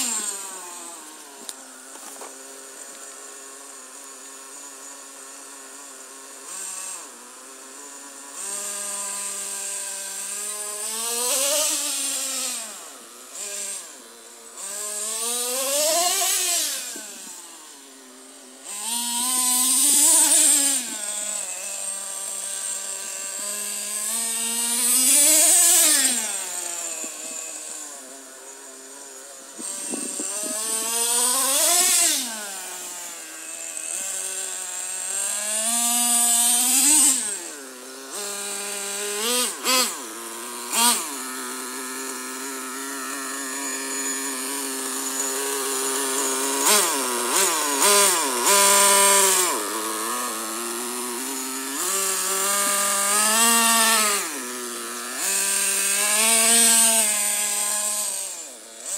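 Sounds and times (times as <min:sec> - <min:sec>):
nitro engine idling and revving: 0:00.0 - 0:58.9.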